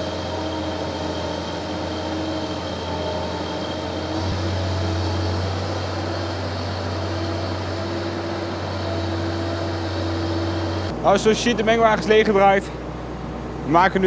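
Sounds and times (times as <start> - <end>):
feed mixer wagon droning: 0.0 - 14.0.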